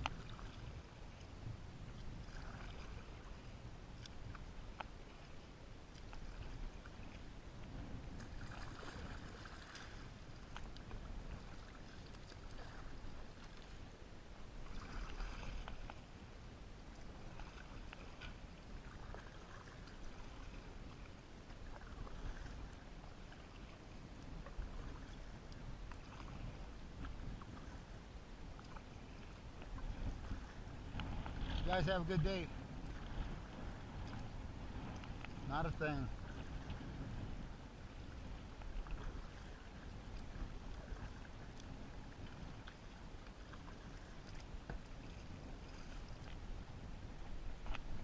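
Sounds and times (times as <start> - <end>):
paddle splashing in water: 0.0 - 13.8, 14.4 - 16.1, 16.9 - 48.0.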